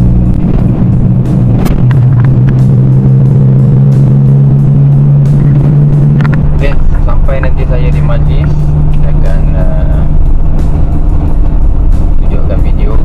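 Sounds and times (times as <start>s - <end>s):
car interior drone: 0.0s - 13.0s
music playing: 0.0s - 13.0s.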